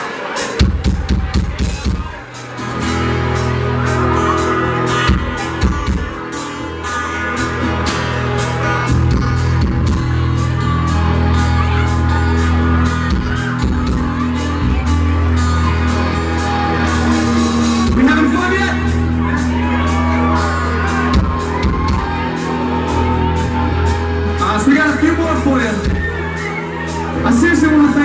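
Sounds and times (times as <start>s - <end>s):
country band playing live: 0.0s - 28.0s
drum kit beat: 0.4s - 28.0s.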